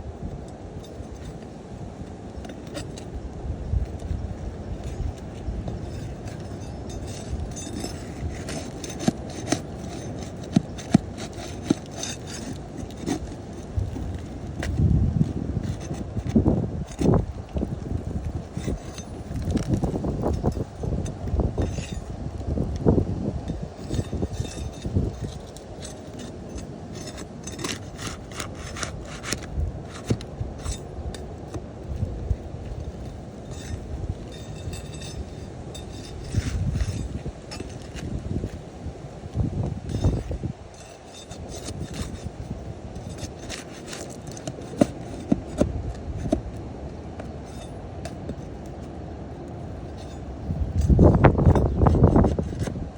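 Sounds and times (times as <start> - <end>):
metal bar scraping under shingles: 0.4 - 52.9.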